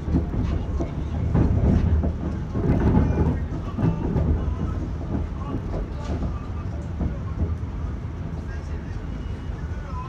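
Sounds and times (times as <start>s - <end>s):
wheels clacking over track: 0.0s - 9.0s
train wheels rumbling on rails: 0.0s - 10.0s.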